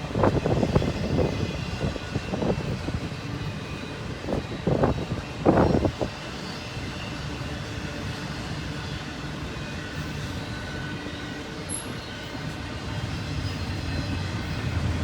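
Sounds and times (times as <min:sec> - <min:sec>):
freight train rumbling: 0:00.0 - 0:15.0
train wheel clatter: 0:00.0 - 0:15.0.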